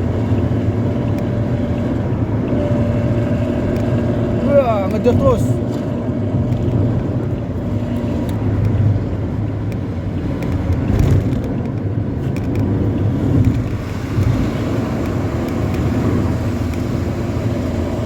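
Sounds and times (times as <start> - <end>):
bus exhaust low rumble: 0.0 - 18.0.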